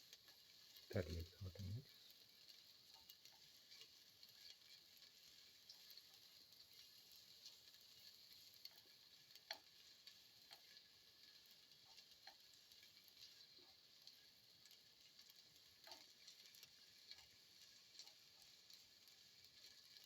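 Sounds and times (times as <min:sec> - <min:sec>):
crackles and pops of frying: 0:00.0 - 0:20.0
shallots sizzling in oil: 0:00.0 - 0:20.0.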